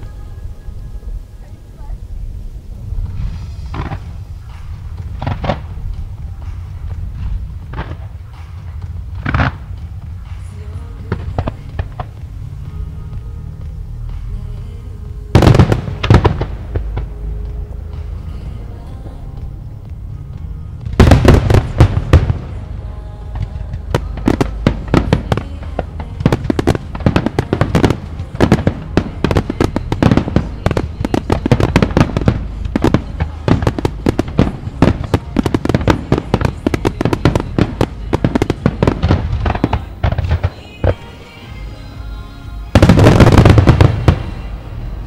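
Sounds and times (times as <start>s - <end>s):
low rumble: 0.0s - 41.0s, 41.6s - 45.0s
fireworks bangs and crackles: 2.7s - 14.4s, 15.2s - 18.6s, 19.9s - 41.6s, 42.7s - 45.0s.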